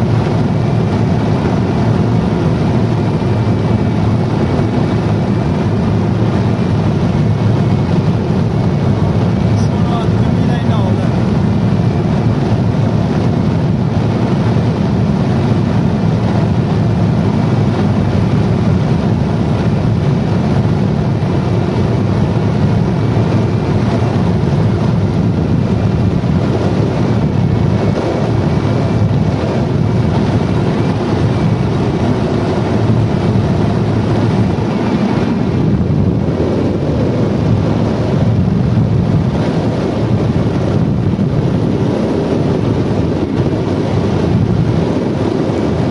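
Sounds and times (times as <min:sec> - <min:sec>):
wind rushing around glider: 0:00.0 - 0:45.9.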